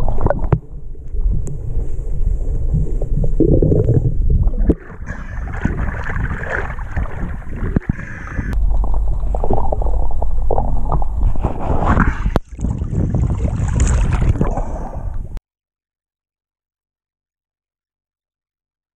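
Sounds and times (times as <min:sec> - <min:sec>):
muffled underwater rumble and gurgle: 0:00.0 - 0:15.4
water sloshing against hull: 0:00.0 - 0:15.4.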